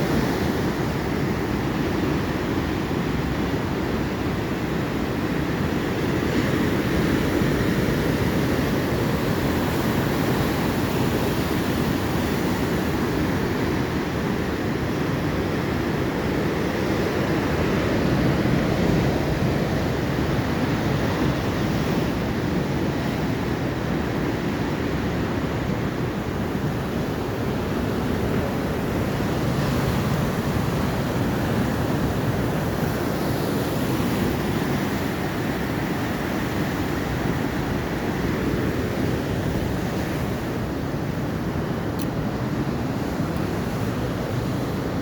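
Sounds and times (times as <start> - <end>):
waves washing onto shore: 0.0 - 45.0.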